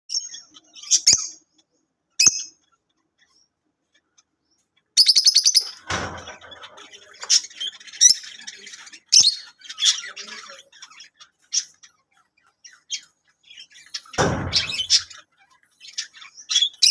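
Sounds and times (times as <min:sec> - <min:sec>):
lovebirds chirping: 0:00.1 - 0:16.9.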